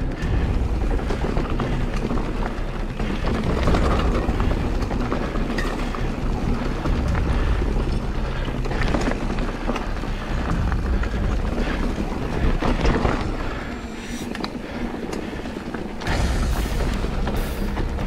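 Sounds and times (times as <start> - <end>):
bike rattling clicks and knocks: 0.0 - 18.0
bike tyre noise: 0.0 - 18.0.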